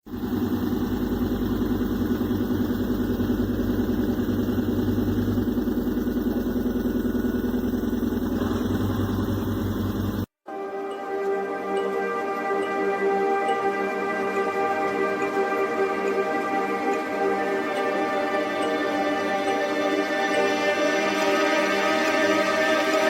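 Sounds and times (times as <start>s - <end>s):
engine running with even throb: 0.0s - 10.3s, 13.1s - 23.0s.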